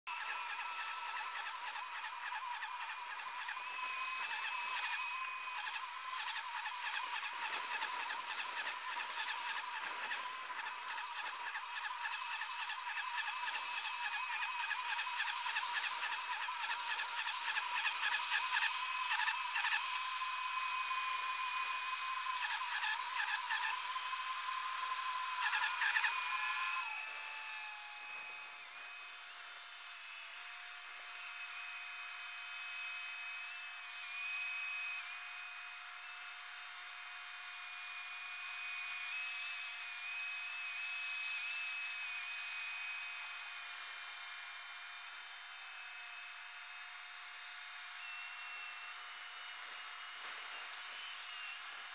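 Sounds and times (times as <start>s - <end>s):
high buzzing machine whine: 0.1s - 51.9s.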